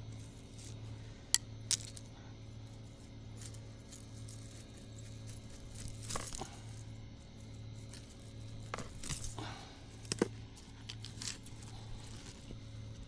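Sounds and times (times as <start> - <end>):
twigs snapping and crunching: 0.0 - 2.1, 2.7 - 12.6
steady low hum: 0.0 - 13.0.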